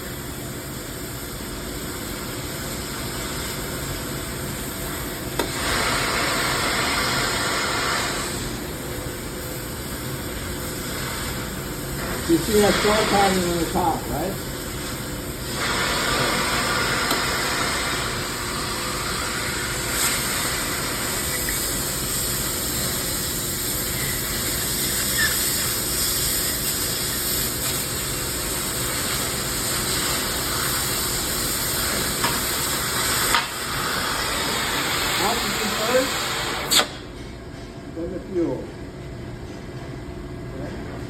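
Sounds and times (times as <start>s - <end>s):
cutting torch hissing: 0.0s - 9.0s, 10.3s - 37.0s.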